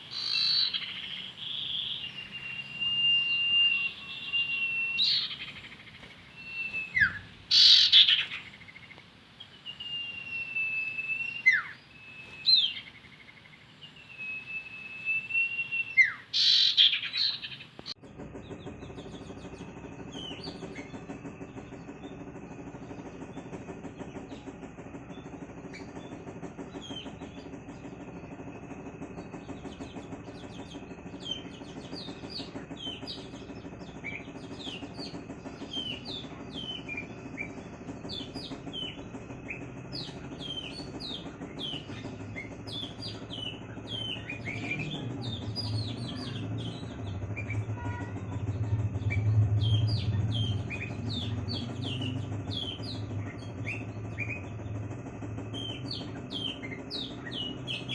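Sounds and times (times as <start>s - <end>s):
small bird chirping: 0.0s - 18.0s, 29.5s - 57.9s
low steady rumble: 0.0s - 57.9s.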